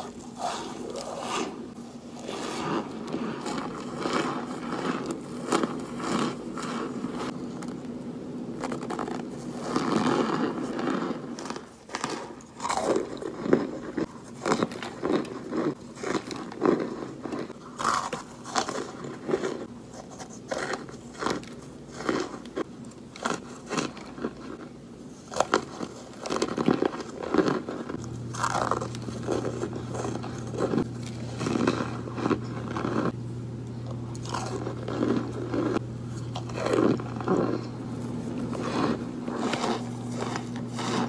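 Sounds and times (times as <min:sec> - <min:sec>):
crunchy chewing: 0:00.0 - 0:41.0.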